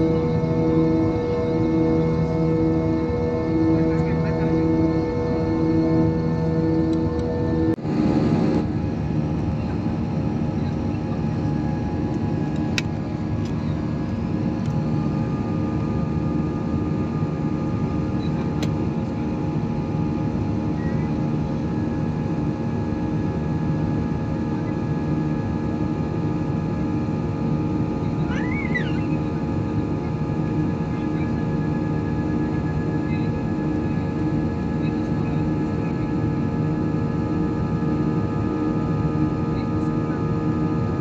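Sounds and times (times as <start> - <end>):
jet engine drone in cabin: 0.0 - 41.0
steady hums: 0.0 - 41.0.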